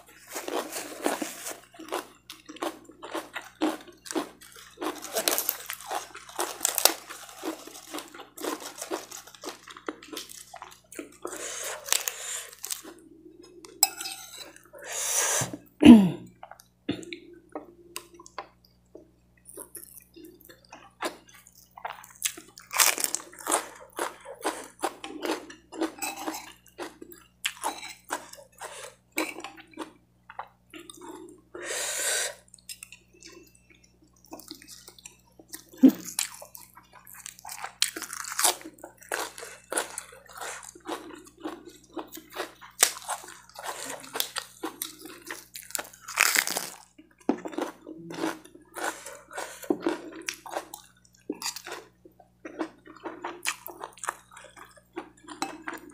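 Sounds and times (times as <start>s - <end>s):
wet chewing and crunching: 0.0s - 13.8s, 19.4s - 31.4s, 32.5s - 55.9s.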